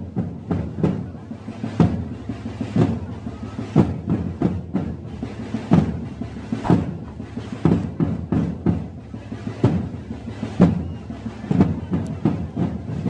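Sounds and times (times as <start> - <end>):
drums beating march rhythm: 0.0 - 13.0.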